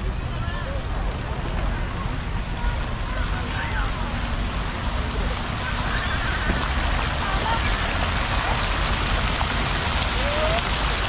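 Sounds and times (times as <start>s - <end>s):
faint voices: 0.0s - 11.0s
fountain water splashing: 0.0s - 11.0s.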